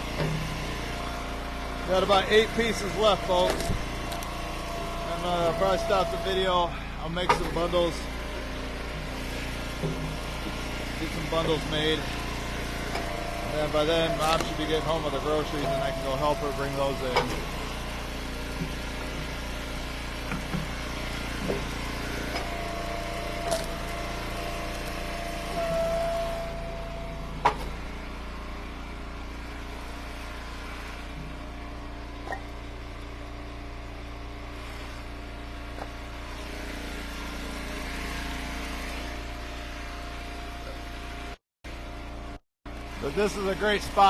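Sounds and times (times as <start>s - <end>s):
hydraulic log splitter running: 0.0s - 44.0s.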